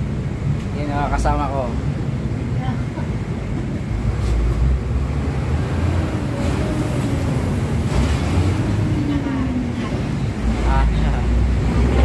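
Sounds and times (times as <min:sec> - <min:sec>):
low rumble of passing traffic: 0:00.0 - 0:12.0.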